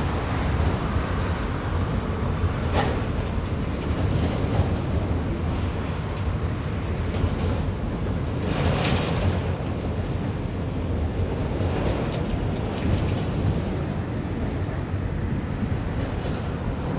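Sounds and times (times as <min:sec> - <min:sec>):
freight train wheels rumbling: 0:00.0 - 0:16.9.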